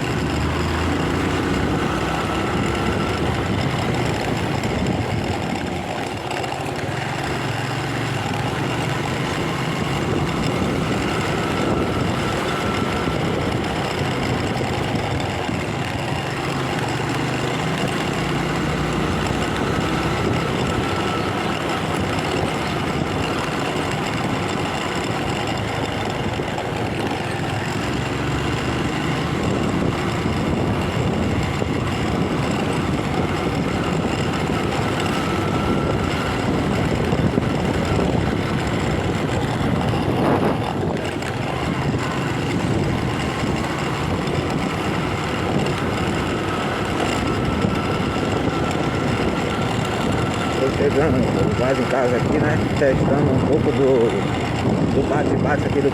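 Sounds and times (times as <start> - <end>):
motorcycle engine running: 0.0 - 55.9
wind and road noise: 0.0 - 55.9.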